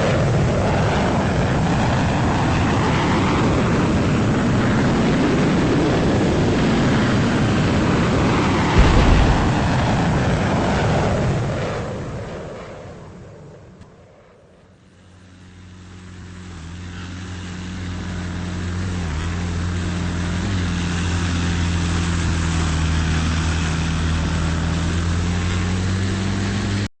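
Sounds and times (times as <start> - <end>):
jet engine roar: 0.0 - 26.9.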